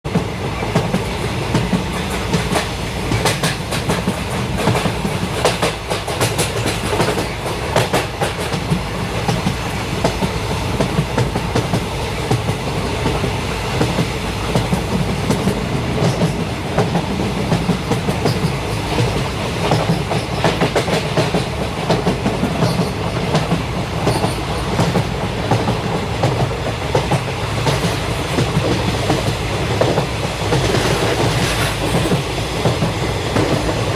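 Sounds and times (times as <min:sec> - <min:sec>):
train rumbling on track: 0:00.0 - 0:33.9.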